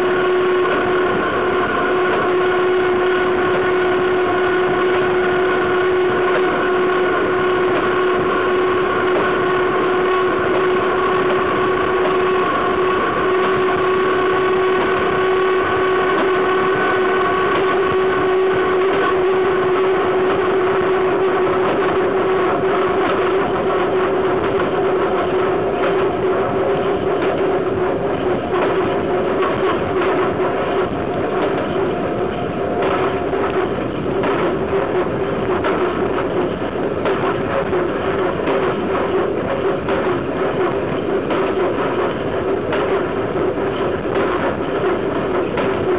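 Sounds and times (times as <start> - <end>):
constant wheel whine: 0.0 - 45.9
train wheels rumbling on rail: 0.0 - 45.9
wheel clicks over rail joints: 0.6 - 45.9.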